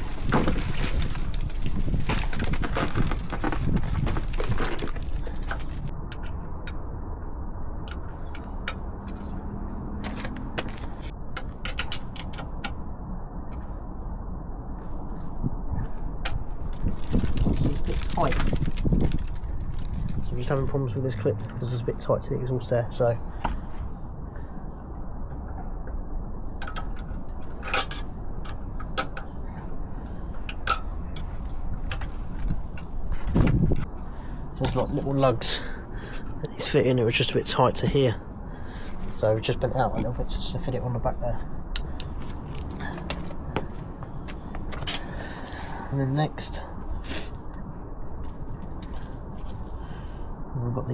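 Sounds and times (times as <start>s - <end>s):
low background rumble: 0.0s - 50.9s.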